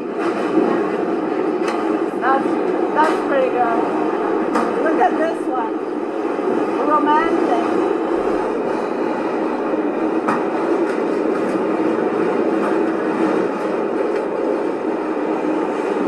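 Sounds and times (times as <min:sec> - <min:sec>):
subway wheels rumbling on rail: 0:00.0 - 0:16.0.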